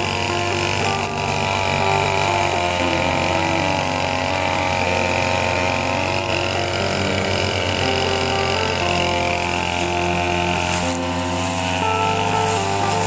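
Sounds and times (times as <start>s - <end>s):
brush cutter engine cutting grass: 0.0s - 13.0s.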